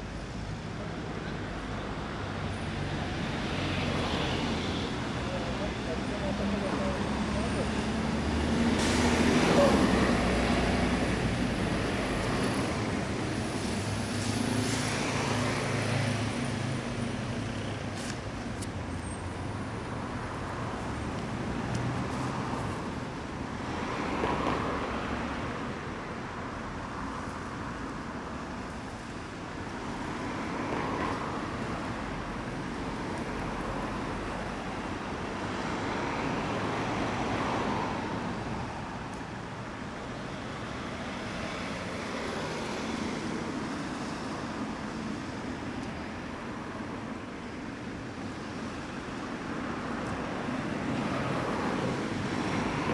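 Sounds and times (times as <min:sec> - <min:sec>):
vehicles passing: 0:00.0 - 0:52.9.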